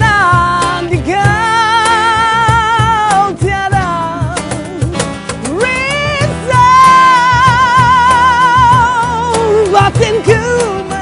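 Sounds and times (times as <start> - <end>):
strummed acoustic guitars: 0.0 - 11.0.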